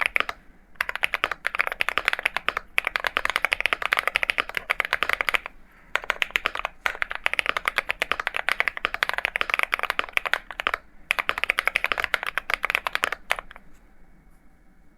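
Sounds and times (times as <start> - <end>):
mechanical keyboard typing: 0.0 - 13.6.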